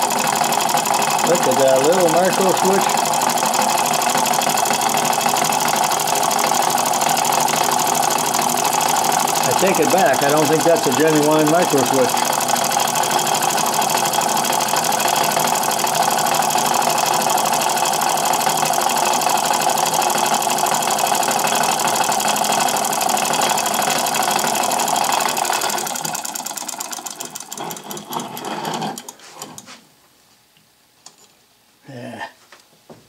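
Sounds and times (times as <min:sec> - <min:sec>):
solenoid engine clattering: 0:00.0 - 0:29.6.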